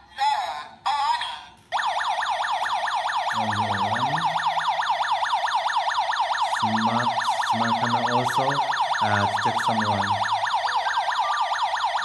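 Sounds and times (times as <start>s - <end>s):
alarm siren short bursts: 1.8s - 12.0s
electronic warble siren: 1.8s - 12.0s.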